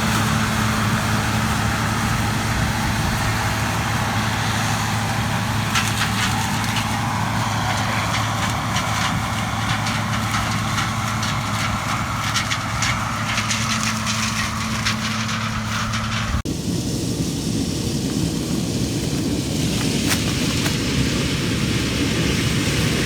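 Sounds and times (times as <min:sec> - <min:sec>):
combine engine hum: 0:00.0 - 0:23.0.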